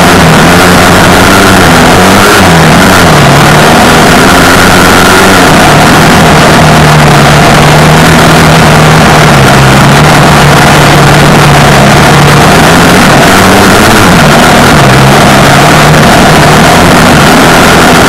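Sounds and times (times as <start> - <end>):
constant rushing noise: 0.0 - 18.0
off-road vehicle engine running: 0.0 - 18.0.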